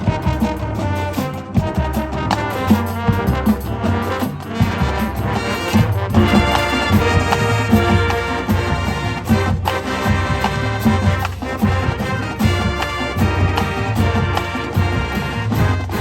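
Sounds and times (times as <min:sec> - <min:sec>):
marching band brass: 0:00.0 - 0:16.0
percussion hits: 0:00.0 - 0:16.0.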